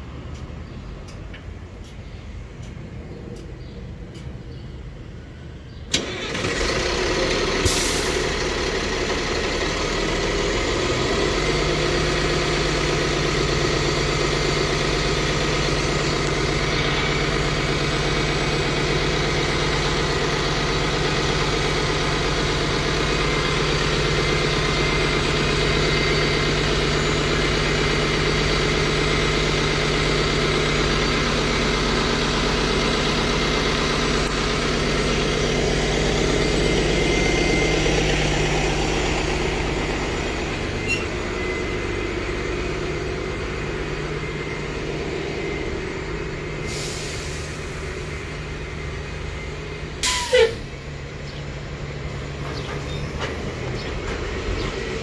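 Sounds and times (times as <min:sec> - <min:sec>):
bus diesel engine starting and idling: 0:00.0 - 0:55.0.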